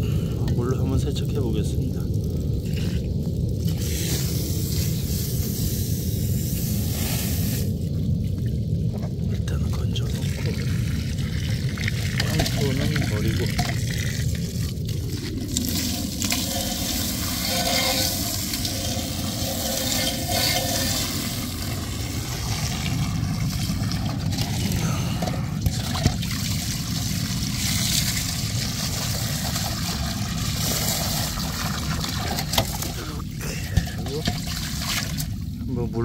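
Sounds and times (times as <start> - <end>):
hose water pouring into basin: 0.6 - 35.9.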